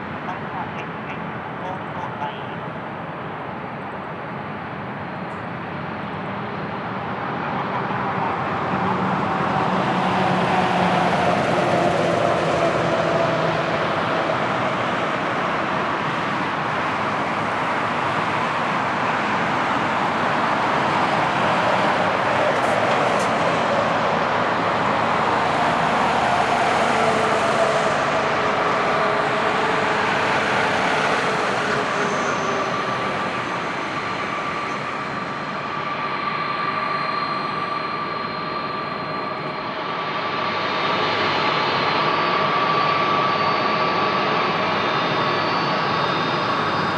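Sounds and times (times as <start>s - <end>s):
jet airliner engines rushing: 0.0s - 46.9s.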